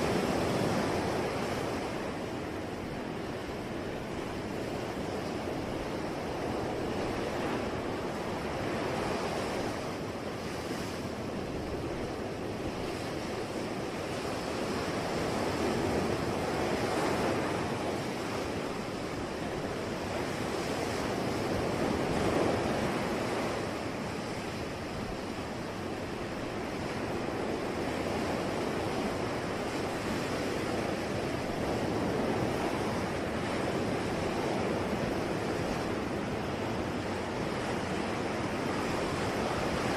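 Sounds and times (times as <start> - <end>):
sea waves washing onto shore: 0.0 - 39.9
wind: 0.0 - 39.9.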